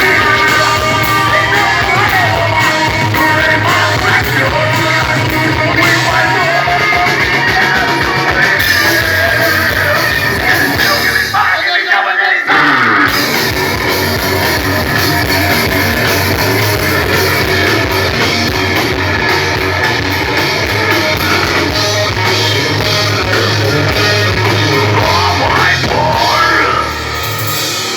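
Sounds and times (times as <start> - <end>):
drum kit beat: 0.0 - 11.6, 13.1 - 27.9
electric guitar: 0.0 - 11.6, 12.5 - 27.9.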